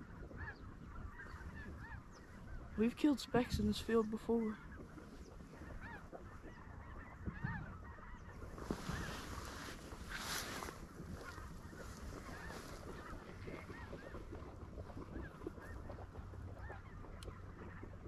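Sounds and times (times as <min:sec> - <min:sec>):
flock of geese calling: 0:00.0 - 0:18.0.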